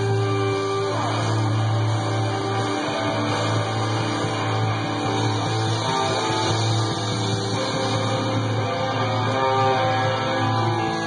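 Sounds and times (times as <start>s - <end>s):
punk rock song with guitar: 0.0s - 11.0s.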